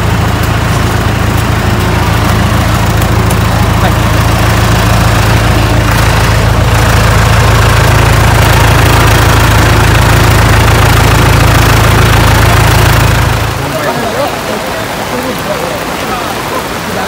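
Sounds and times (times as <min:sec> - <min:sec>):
heavy rain hissing: 0:00.0 - 0:17.0
vehicle engine idling: 0:00.0 - 0:17.0.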